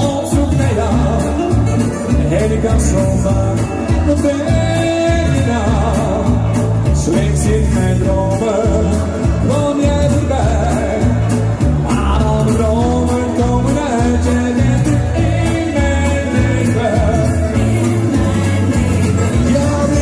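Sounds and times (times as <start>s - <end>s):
amplified pop music: 0.0s - 20.0s
person singing with vibrato: 0.0s - 20.0s.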